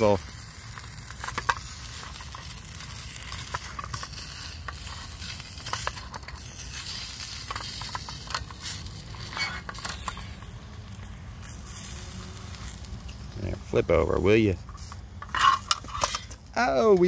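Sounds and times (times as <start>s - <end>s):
fat crackling and popping: 0.0s - 17.0s
sausages sizzling in a pan: 0.0s - 17.0s.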